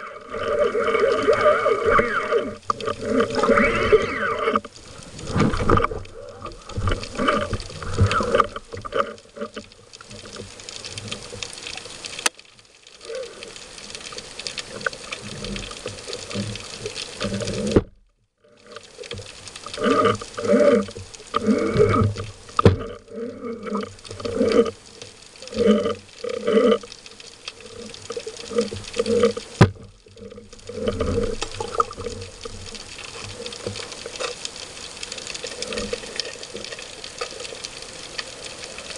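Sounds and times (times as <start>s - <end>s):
underwater bubbling: 0.0s - 38.9s
water churning and gurgling: 0.0s - 38.9s.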